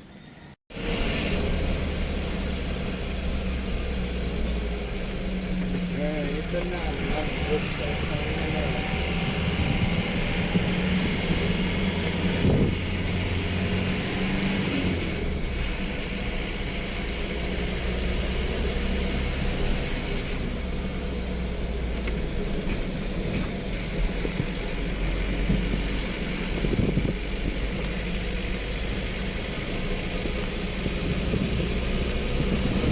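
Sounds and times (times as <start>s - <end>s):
road noise: 0.0s - 32.9s
vehicle engine hum: 0.0s - 32.9s.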